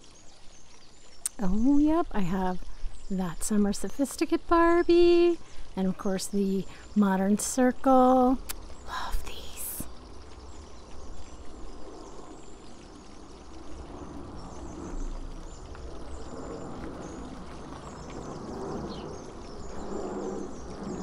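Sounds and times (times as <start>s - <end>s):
background hiss: 0.0s - 21.0s
low hum: 0.0s - 21.0s.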